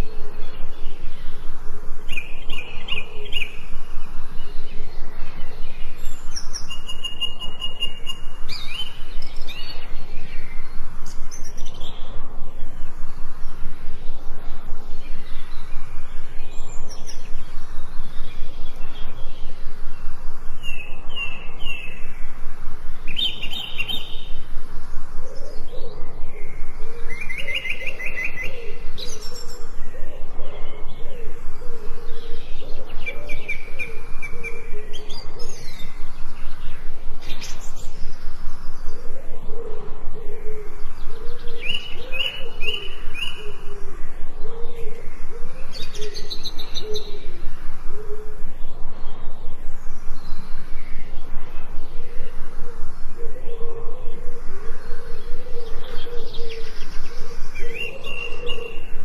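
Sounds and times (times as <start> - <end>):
birds chirping and trilling: 0.0 - 59.0
low wavering bird call: 0.0 - 59.0.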